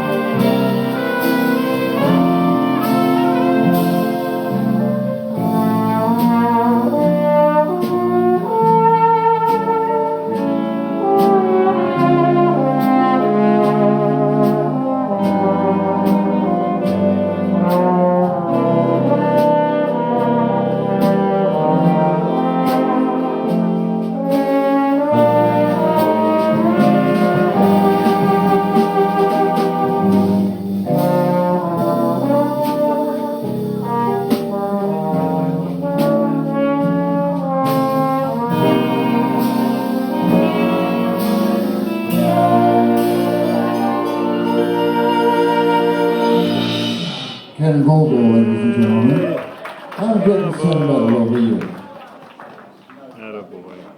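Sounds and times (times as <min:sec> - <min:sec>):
brass section playing swing: 0:00.0 - 0:47.7
drums keeping the beat: 0:00.0 - 0:53.9.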